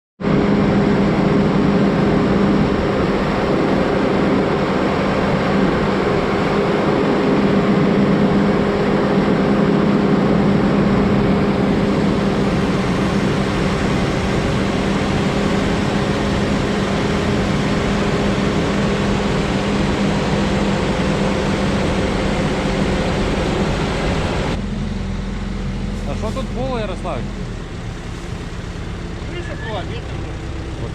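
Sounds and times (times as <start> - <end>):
large engine droning: 0.2 - 30.9.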